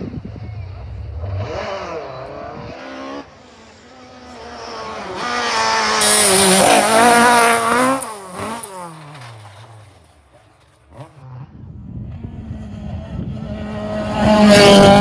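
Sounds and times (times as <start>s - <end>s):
distant car: 0.0s - 15.0s
rally car engine passing: 0.6s - 15.0s.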